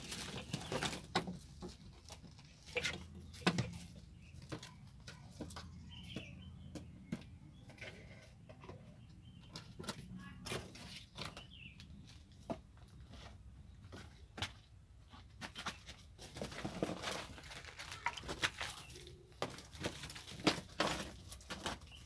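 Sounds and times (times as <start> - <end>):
kittens rustling and scratching: 0.0 - 22.0.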